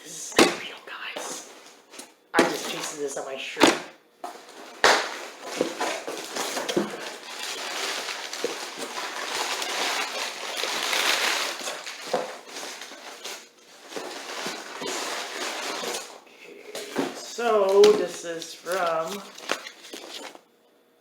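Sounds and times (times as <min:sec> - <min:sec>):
packing paper crinkling: 0:00.6 - 0:03.1, 0:04.3 - 0:20.5.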